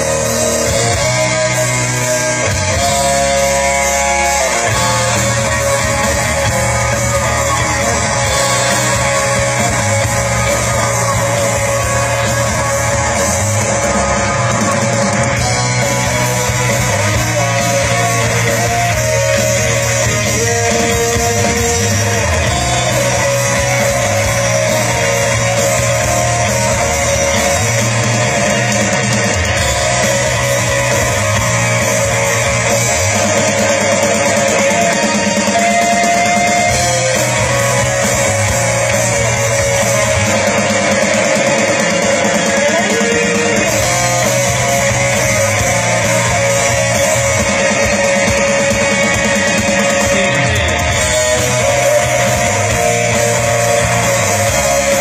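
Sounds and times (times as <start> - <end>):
electric guitar: 0.0 - 55.0
rock band playing live: 0.0 - 55.0.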